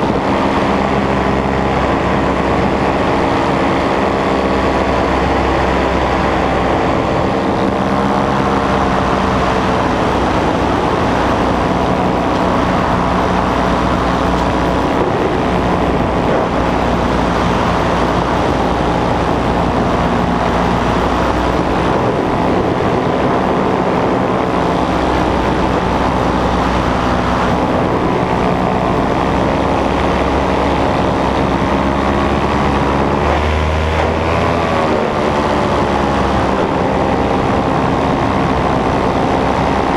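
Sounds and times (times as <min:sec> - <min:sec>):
paramotor engine and propeller: 0:00.0 - 0:39.9
wind rushing past microphone: 0:00.0 - 0:39.9.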